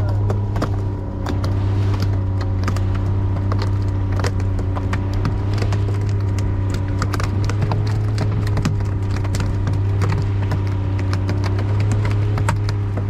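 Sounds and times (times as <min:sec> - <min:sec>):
boat motor humming: 0:00.0 - 0:13.0
sharp knocks and taps: 0:00.1 - 0:13.0.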